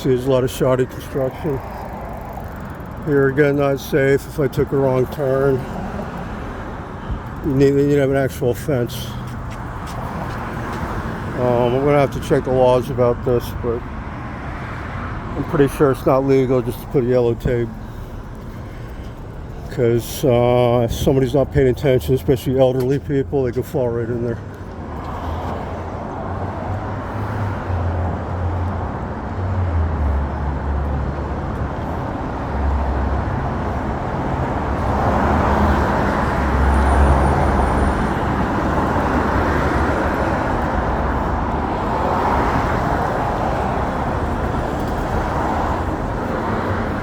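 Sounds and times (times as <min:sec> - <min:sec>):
tyre and engine rumble: 0:00.0 - 0:47.0.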